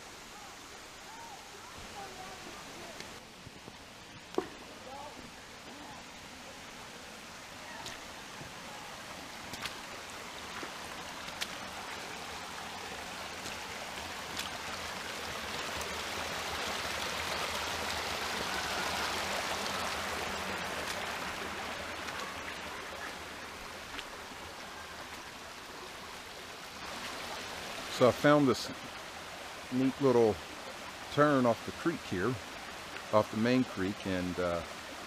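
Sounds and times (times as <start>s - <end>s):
creek water running over rocks: 0.0s - 35.0s
small waterfall spilling: 0.0s - 35.0s.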